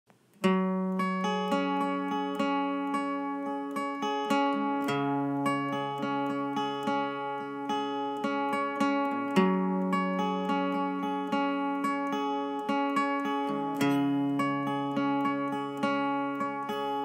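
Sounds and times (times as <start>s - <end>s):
acoustic guitar picking: 0.2s - 17.0s.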